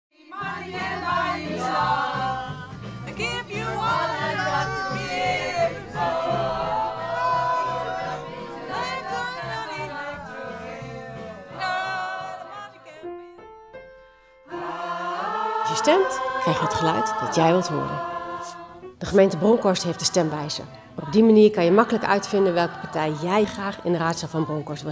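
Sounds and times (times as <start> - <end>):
mixed choir singing pop: 0.1 - 13.2, 14.5 - 24.9.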